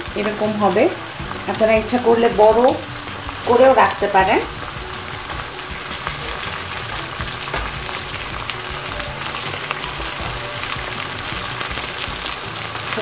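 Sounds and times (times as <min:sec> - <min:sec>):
faint background music: 0:00.0 - 0:13.0
meat and onions sizzling in oil: 0:00.0 - 0:13.0.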